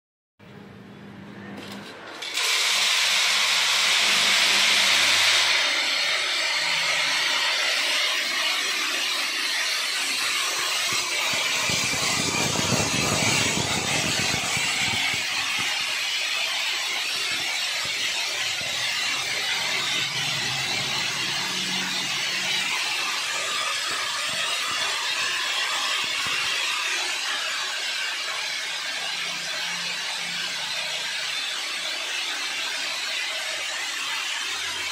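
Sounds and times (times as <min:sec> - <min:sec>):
seeds hissing down metal spirals: 0:02.3 - 0:34.9.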